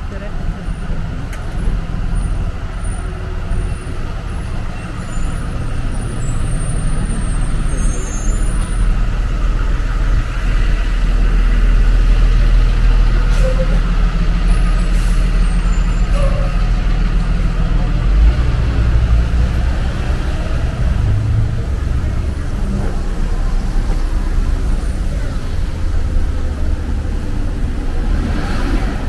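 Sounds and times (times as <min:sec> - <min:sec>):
heavy vehicle engine rumbling: 0:00.0 - 0:29.0.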